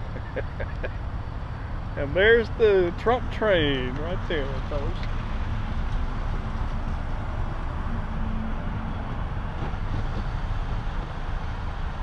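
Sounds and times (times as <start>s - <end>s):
car rolling with low rumble: 0.0s - 12.0s.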